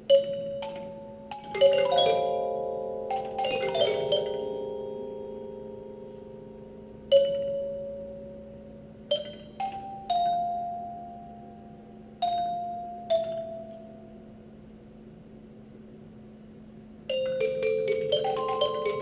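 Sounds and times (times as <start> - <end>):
glockenspiel notes ringing: 0.0 - 14.2, 17.1 - 19.0
faint steady hum: 0.0 - 19.0.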